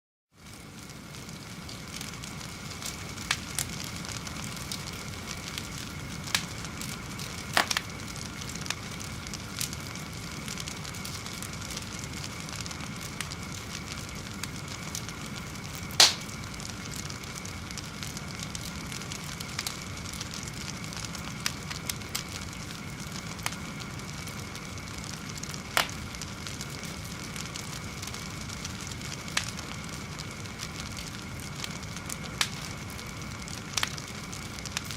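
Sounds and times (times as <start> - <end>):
fire hissing and crackling: 0.3 - 34.9
fire popping: 0.4 - 34.9.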